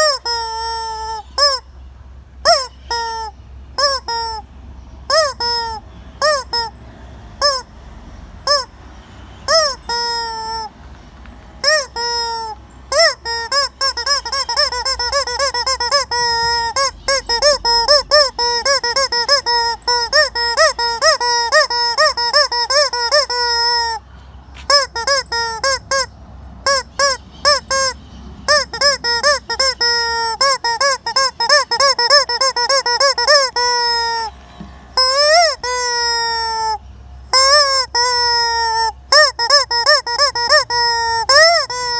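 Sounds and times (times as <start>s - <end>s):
rubber chicken toy squawking: 0.0s - 1.7s, 2.4s - 4.5s, 5.1s - 6.8s, 7.4s - 7.7s, 8.4s - 8.8s, 9.4s - 10.8s, 11.6s - 24.0s, 24.6s - 41.9s.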